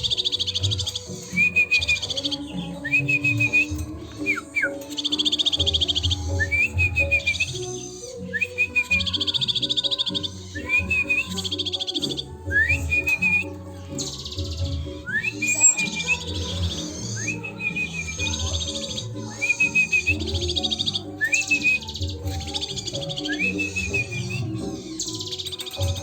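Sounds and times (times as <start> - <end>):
background music: 0.0 - 26.0
bird singing with trills: 0.0 - 26.0.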